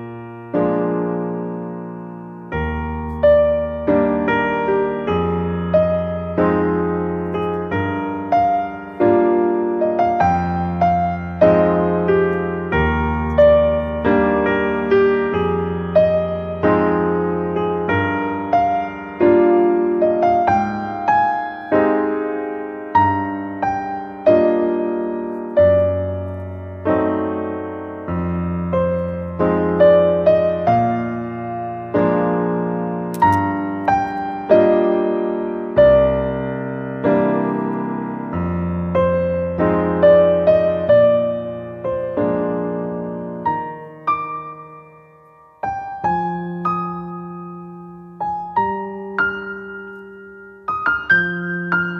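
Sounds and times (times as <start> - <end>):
slow gentle piano piece: 0.0 - 51.9.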